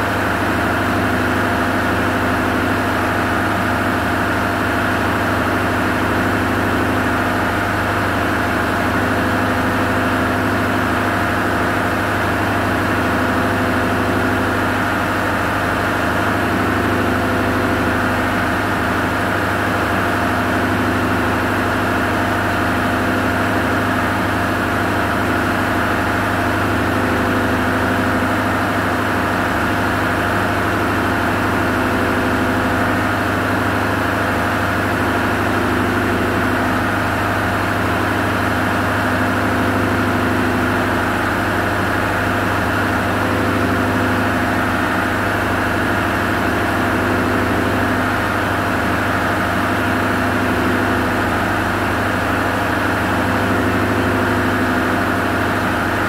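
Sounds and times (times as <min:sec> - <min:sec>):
diesel engine drone: 0:00.0 - 0:56.0.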